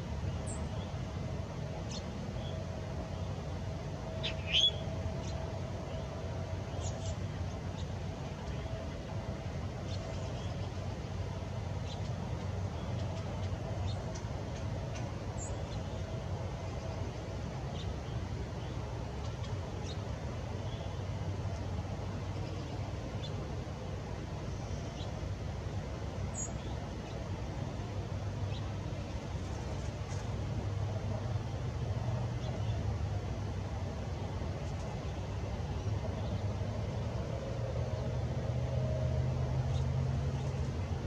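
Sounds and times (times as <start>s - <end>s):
low outdoor rumble: 0.0s - 41.0s.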